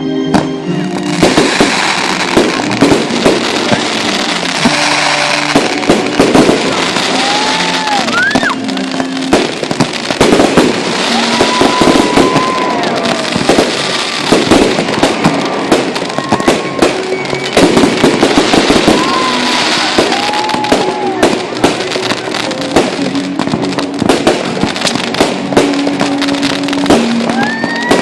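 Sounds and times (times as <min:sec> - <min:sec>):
fireworks crackling and popping: 0:00.3 - 0:28.0
whistling fireworks: 0:00.3 - 0:28.0.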